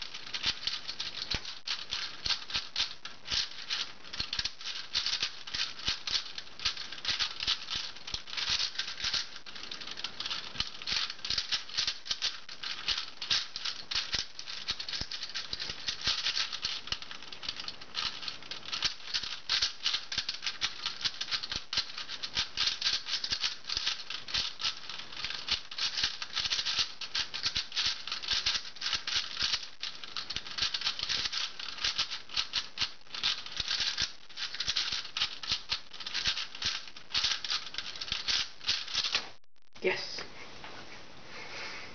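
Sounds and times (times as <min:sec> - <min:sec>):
puzzle cube clicking and rattling: 0:00.0 - 0:39.3.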